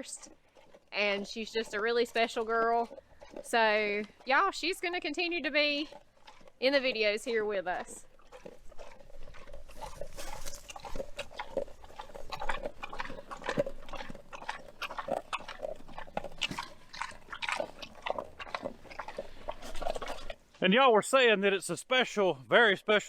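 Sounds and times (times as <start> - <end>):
pig grunting: 0.0 - 20.4.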